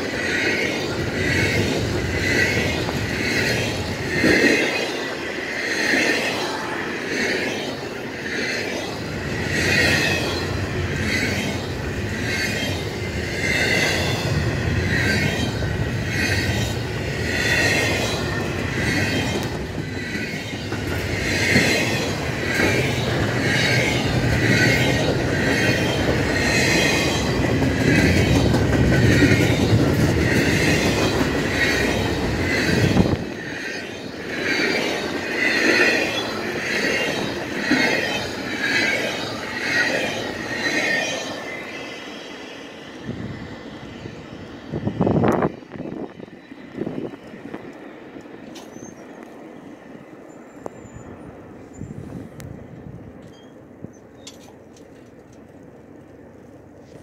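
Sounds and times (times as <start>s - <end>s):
train wheels squealing: 0.0s - 55.0s
low rumble of train cars: 0.0s - 57.0s.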